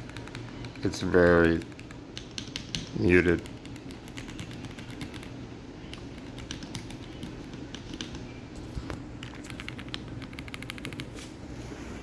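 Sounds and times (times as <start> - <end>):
muted mechanical keyboard typing: 0.0 - 8.2, 9.2 - 11.1.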